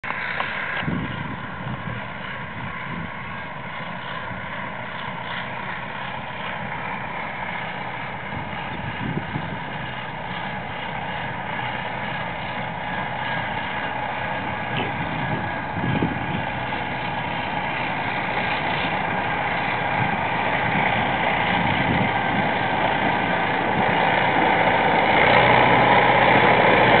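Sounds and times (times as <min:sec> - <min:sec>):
combine harvester diesel engine running: 0:00.0 - 0:27.0.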